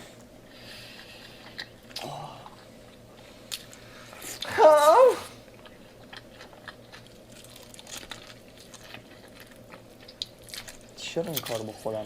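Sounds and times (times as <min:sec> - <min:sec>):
faint steady hum: 0:00.0 - 0:12.0
person chewing food: 0:00.2 - 0:04.6, 0:05.3 - 0:11.8.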